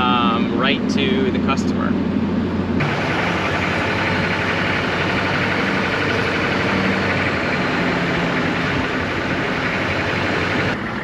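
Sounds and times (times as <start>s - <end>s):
pickup truck engine running: 0.0s - 11.0s
road and wind noise: 0.0s - 11.0s.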